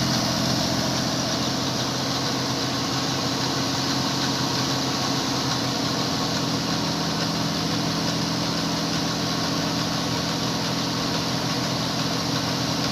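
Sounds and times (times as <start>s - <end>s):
car engine idling: 0.0s - 12.9s
engine bay hiss: 0.0s - 12.9s.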